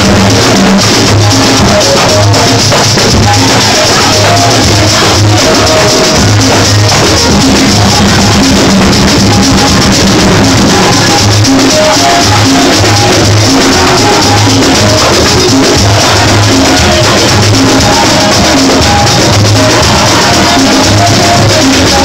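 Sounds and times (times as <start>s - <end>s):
drum kit with cymbals: 0.0s - 22.0s
keyboard bass line: 0.0s - 22.0s.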